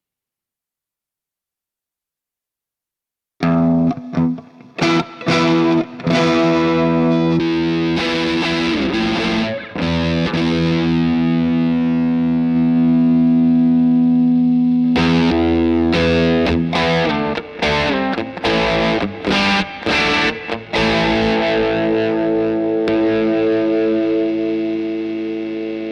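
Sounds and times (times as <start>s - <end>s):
distorted electric guitar chords: 3.4s - 25.9s.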